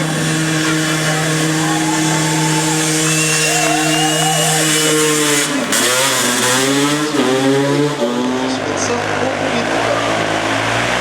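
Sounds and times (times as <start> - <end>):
racing motorcycle engine revving: 0.0 - 11.0.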